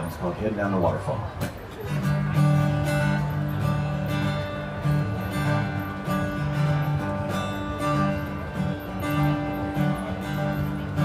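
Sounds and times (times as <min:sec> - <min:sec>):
acoustic guitar strumming chords: 0:01.3 - 0:11.0.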